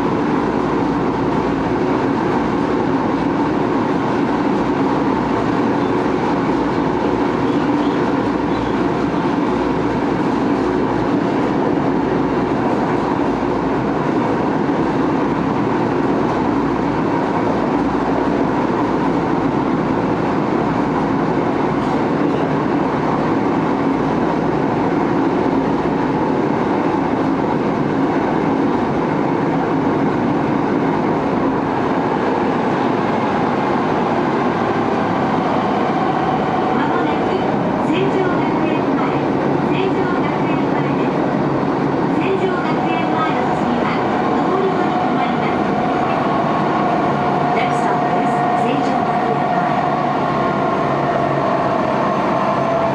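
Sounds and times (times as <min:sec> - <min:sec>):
train running on rails: 0:00.0 - 0:52.9.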